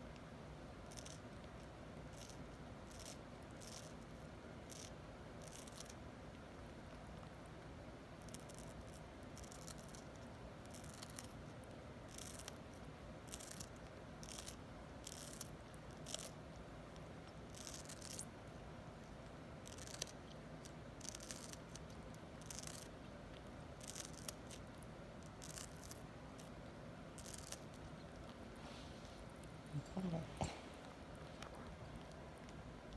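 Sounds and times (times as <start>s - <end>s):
bird crunching watermelon: 0.1s - 32.9s.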